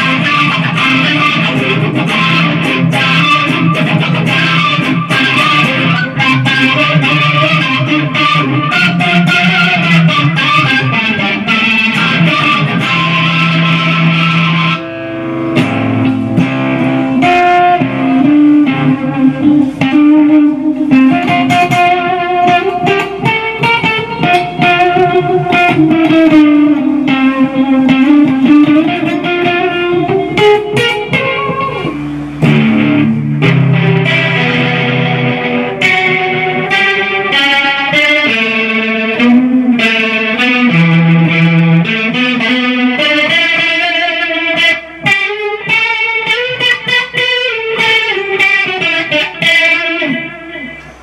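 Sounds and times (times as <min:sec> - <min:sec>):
electric guitar through amp: 0:00.0 - 0:51.0.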